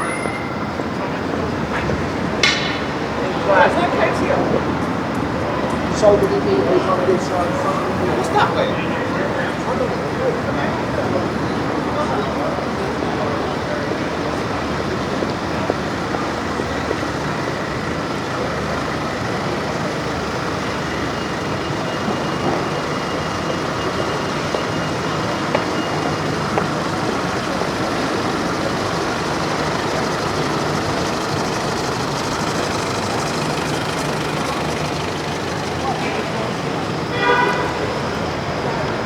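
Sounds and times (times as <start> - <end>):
traffic noise: 0.0 - 39.0.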